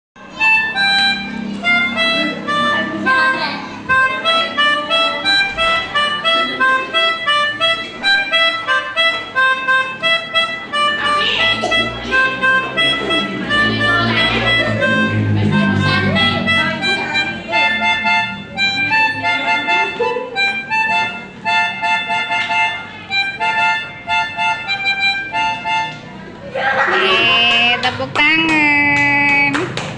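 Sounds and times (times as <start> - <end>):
melodica playing short notes: 0.2 - 26.4.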